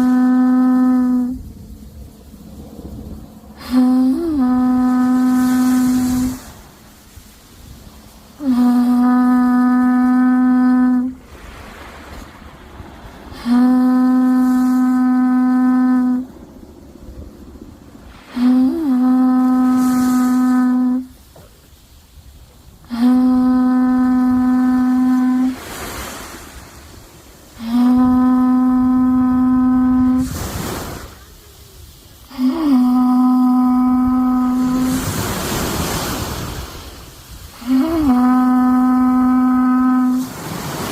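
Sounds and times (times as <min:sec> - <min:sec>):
conch shell trumpet notes: 0:00.0 - 0:01.6, 0:03.1 - 0:11.8, 0:12.8 - 0:16.6, 0:18.0 - 0:21.3, 0:22.8 - 0:31.2, 0:31.9 - 0:40.9.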